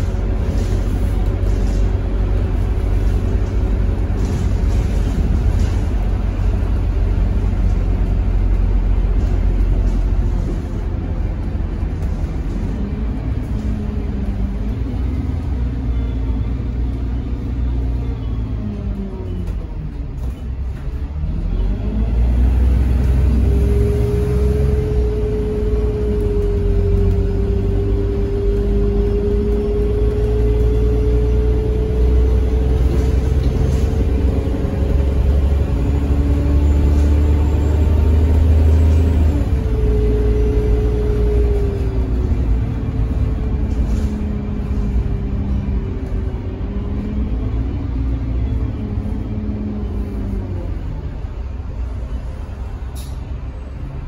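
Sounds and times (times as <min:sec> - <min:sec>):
bus diesel engine revving: 0:00.0 - 0:54.0.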